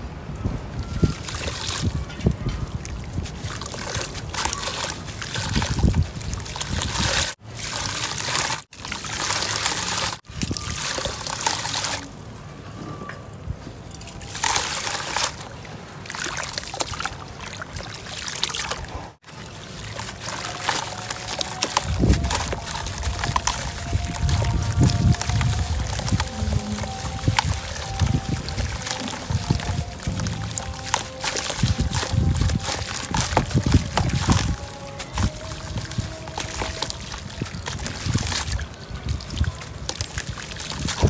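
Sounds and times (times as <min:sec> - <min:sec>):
water trickling and sloshing: 0:00.0 - 0:41.0
cement chunks crumbling in water: 0:00.9 - 0:12.1, 0:13.9 - 0:41.0.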